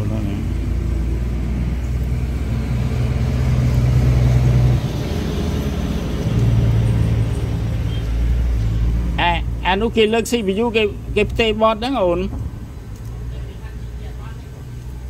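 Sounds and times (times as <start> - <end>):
loud low engine rumble: 0.0 - 15.0.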